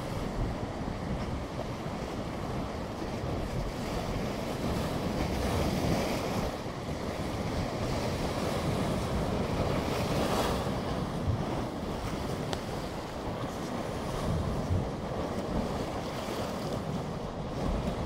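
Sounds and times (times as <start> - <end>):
sea waves washing over rocks: 0.0 - 18.0
wave splashing against rock: 0.0 - 18.0.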